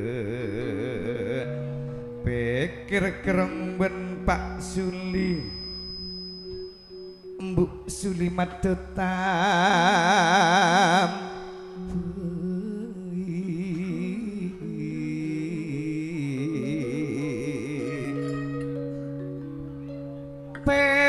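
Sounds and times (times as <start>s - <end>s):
melody with wide vibrato: 0.0s - 21.0s.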